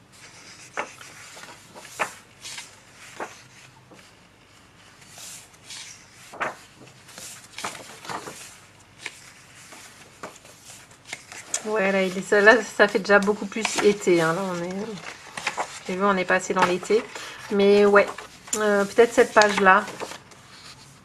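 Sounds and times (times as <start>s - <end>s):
paper pages rustling: 0.2s - 21.0s.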